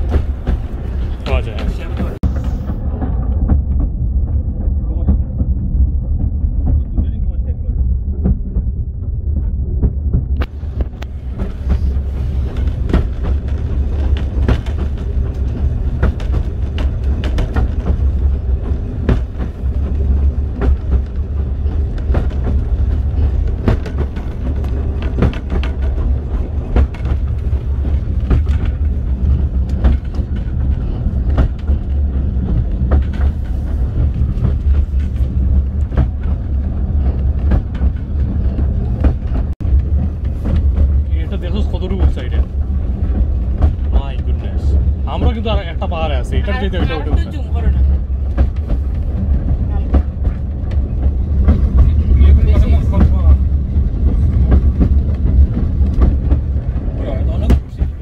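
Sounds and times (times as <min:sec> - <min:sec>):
railway carriage rumbling: 0:00.0 - 0:58.0
wheels knocking and rattling: 0:00.0 - 0:58.0.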